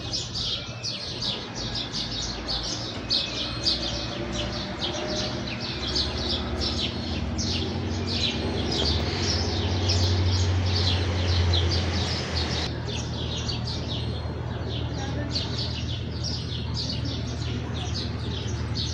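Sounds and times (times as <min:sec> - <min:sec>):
sparrows chirping: 0:00.0 - 0:18.9.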